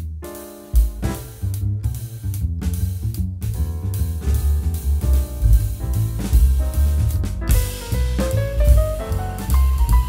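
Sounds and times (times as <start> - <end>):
instrumental music with bass: 0.0 - 10.0.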